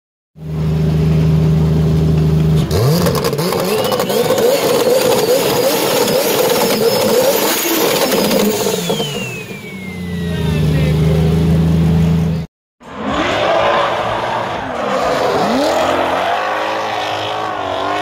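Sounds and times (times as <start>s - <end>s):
car engine revving: 0.4s - 18.0s.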